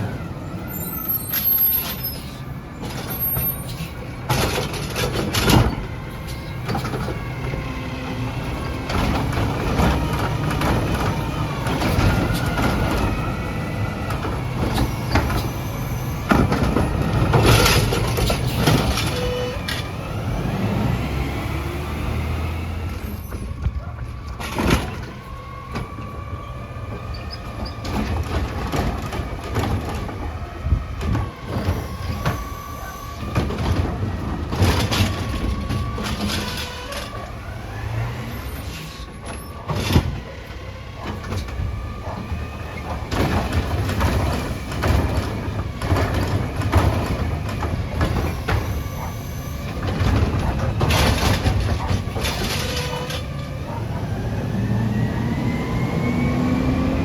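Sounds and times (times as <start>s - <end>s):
garbage truck engine running: 0.0s - 57.0s
clanks and knocks: 2.8s - 15.6s, 16.2s - 19.9s, 23.3s - 37.3s, 38.6s - 54.2s.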